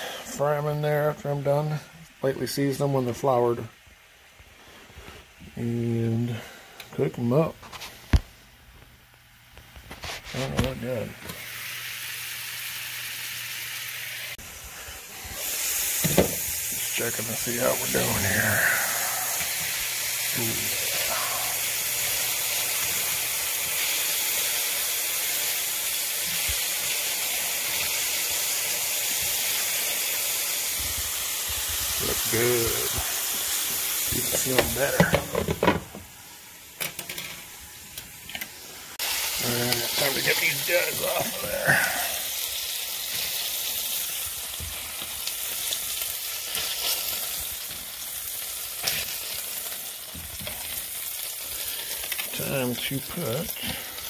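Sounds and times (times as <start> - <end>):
meat sizzling in frying pan: 10.0 - 54.0.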